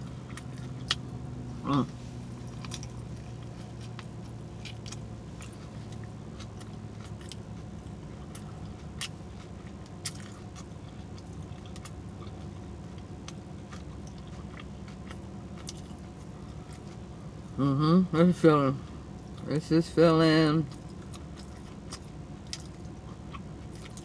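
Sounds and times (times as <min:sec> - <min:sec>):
air conditioning hum: 0:00.0 - 0:24.0.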